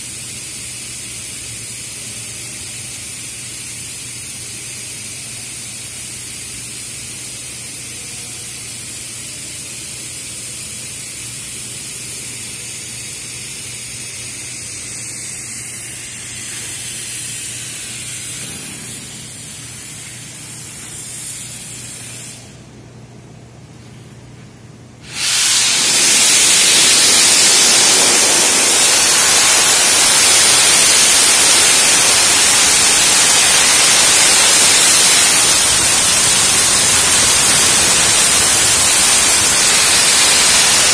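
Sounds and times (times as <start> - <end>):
sandblasting nozzle hissing: 3.3 - 22.6, 25.0 - 40.9.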